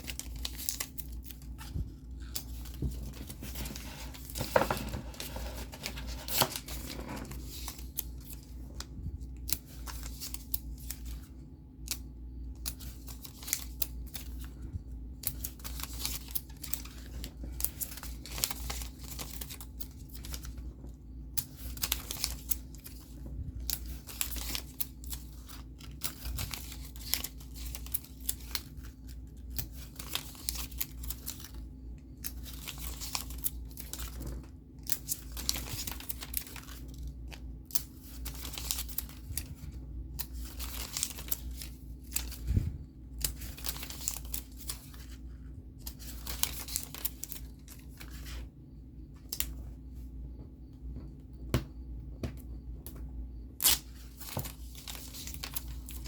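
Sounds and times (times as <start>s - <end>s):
paper rustling and crinkling: 0.0s - 50.4s, 53.6s - 56.0s.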